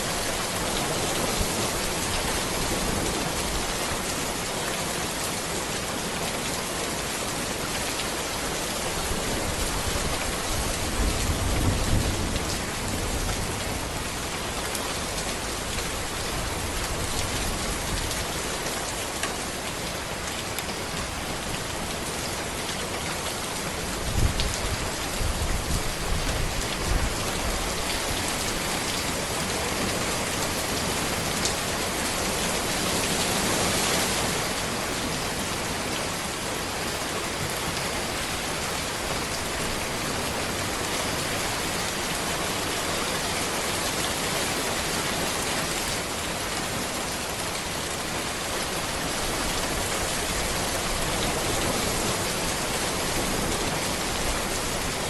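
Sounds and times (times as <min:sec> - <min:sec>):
rain falling on a road: 0:00.0 - 0:55.0.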